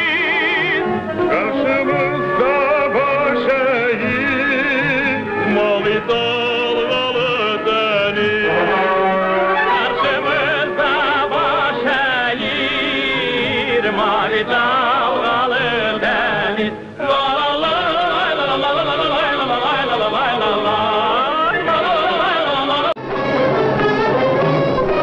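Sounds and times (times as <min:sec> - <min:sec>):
background music with vibrato melody: 0:00.0 - 0:25.0.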